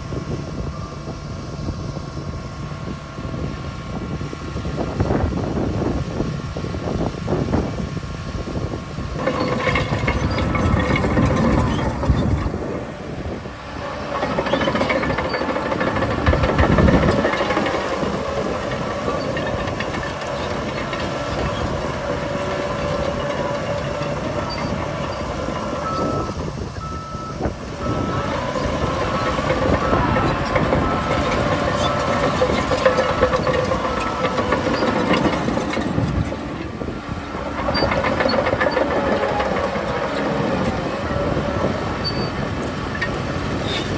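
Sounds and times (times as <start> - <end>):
bulldozer diesel engine rumbling: 0.0 - 43.9.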